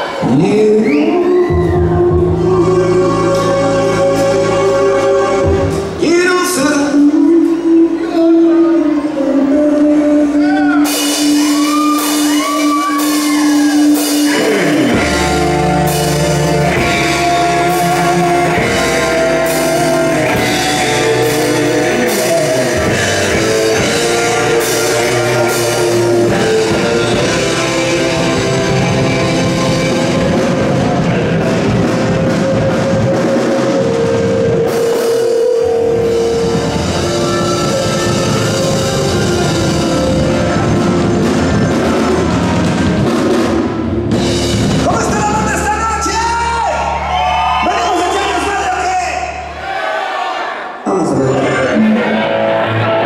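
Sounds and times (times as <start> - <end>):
live rock band playing: 0.0 - 49.7, 50.8 - 53.0
electric guitar bending notes: 1.5 - 45.5, 50.8 - 53.0.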